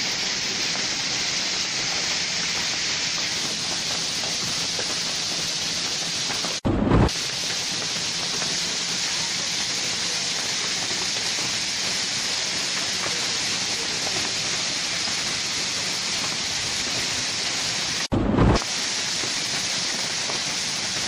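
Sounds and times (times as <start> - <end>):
heavy rain on road: 0.0 - 21.0
lightning strike crack: 2.3 - 10.0, 11.2 - 21.0.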